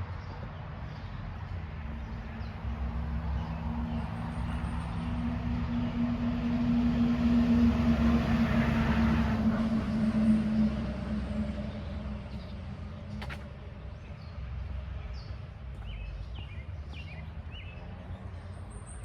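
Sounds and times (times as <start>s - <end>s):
vehicle engine approaching: 0.6s - 19.0s.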